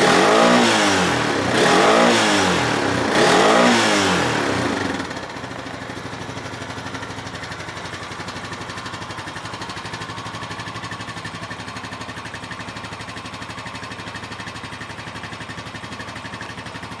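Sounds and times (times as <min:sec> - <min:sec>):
atv engine idling: 0:00.0 - 0:17.0.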